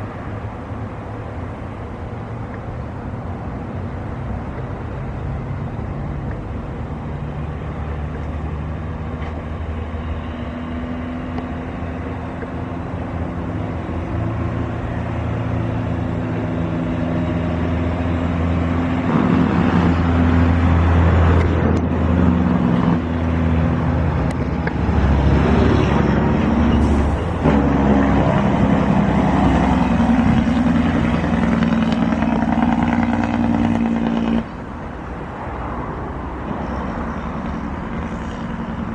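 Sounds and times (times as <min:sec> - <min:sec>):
engine low hums: 0:00.0 - 0:38.9.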